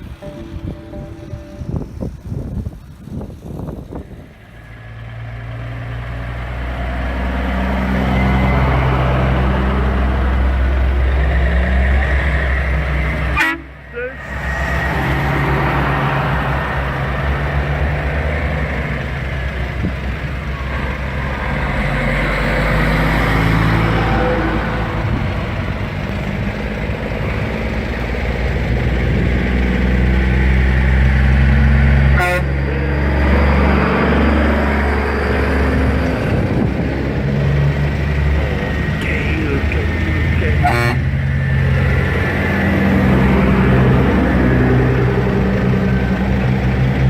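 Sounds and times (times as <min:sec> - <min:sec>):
truck diesel engine droning: 0:00.0 - 0:47.0.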